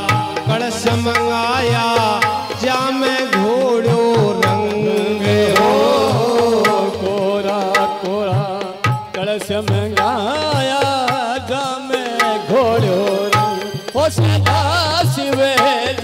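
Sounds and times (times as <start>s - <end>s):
hand drum rhythm: 0.0s - 16.0s
harmonium melody: 0.0s - 16.0s.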